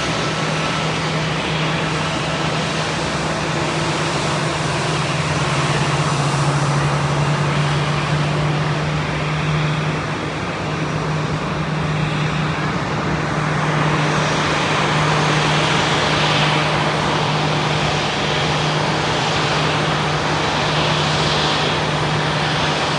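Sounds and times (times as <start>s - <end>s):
aircraft engine roar: 0.0s - 22.9s.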